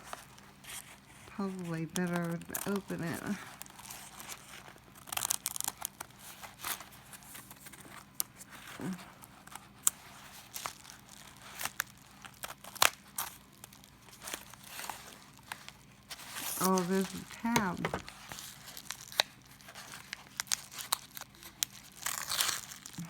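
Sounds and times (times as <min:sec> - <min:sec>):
packaging crinkling and tearing: 0:00.0 - 0:23.0.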